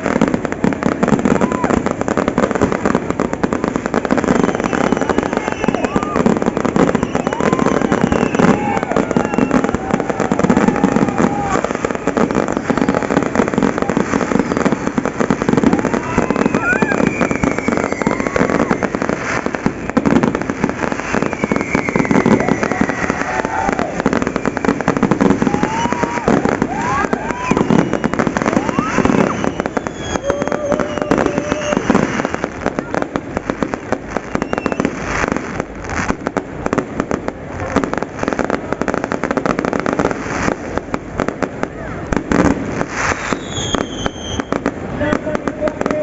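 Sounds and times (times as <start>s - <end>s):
fireworks crackling and banging: 0.0s - 46.0s.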